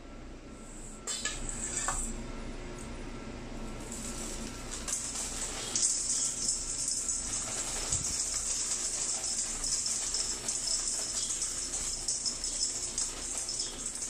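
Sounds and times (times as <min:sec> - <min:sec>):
blower fan hissing: 0:00.0 - 0:14.0.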